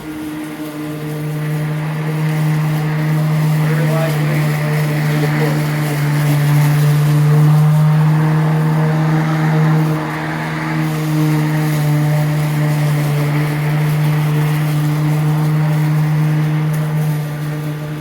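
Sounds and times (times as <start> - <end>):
electric lawn mower cutting grass: 0.0 - 18.0.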